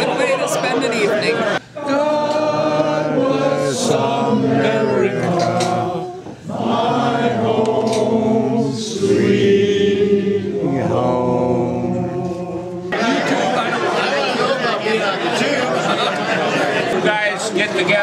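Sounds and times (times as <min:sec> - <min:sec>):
people singing unaccompanied: 0:00.0 - 0:18.0.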